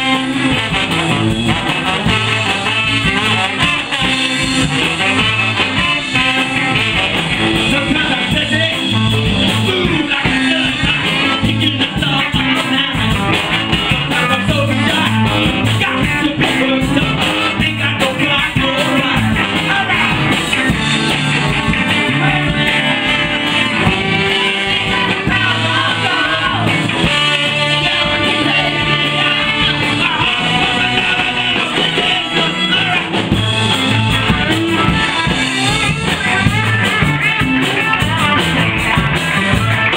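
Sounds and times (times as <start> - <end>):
backing vocals: 0.0 - 39.9
man singing lead: 0.0 - 39.9
rock band with horns: 0.0 - 39.9.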